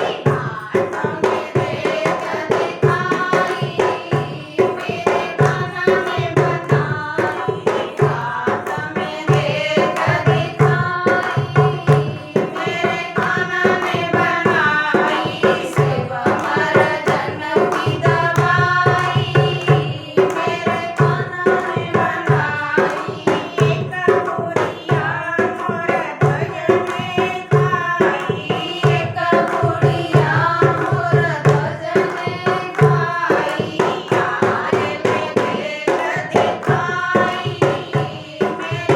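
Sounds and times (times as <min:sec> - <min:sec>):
fast hand-drum beat: 0:00.0 - 0:38.9
woman singing: 0:00.0 - 0:38.9.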